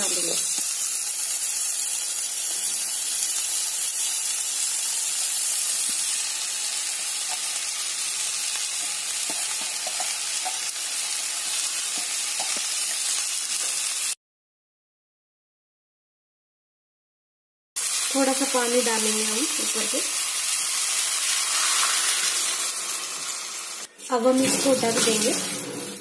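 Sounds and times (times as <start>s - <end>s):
food sizzling in hot oil: 0.0s - 14.2s, 17.8s - 26.0s.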